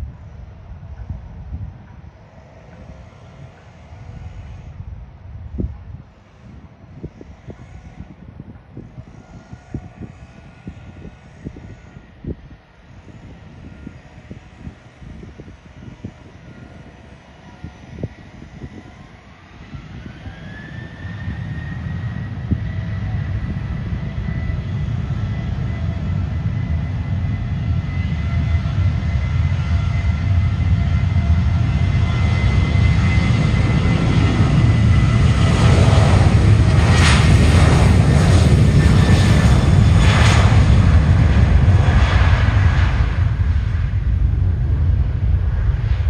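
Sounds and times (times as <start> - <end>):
jet engine whine: 0.0 - 46.0
jet low rumble: 0.0 - 46.0.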